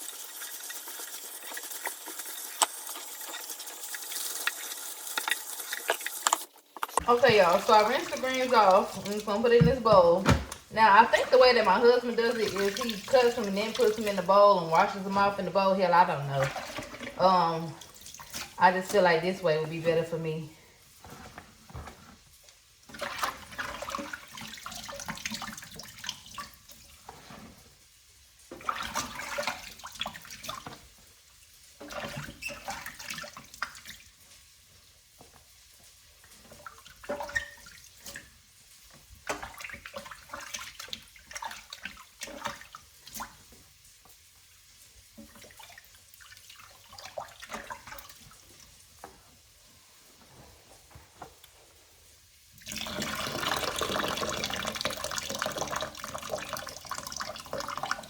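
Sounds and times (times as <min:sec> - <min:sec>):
water splashing in a sink: 0:00.0 - 0:58.0.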